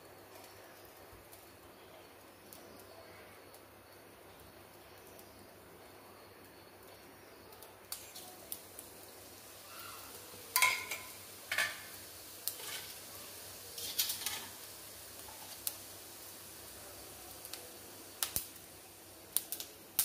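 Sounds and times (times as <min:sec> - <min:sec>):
seeds sizzling in hot oil: 0:00.0 - 0:20.0.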